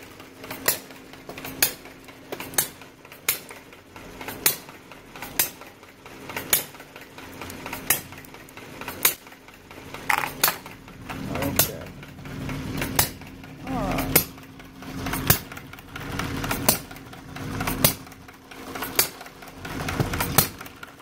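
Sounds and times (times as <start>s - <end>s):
steady low engine hum: 0.0s - 20.9s
sharp metallic clicks of engine: 0.0s - 21.0s.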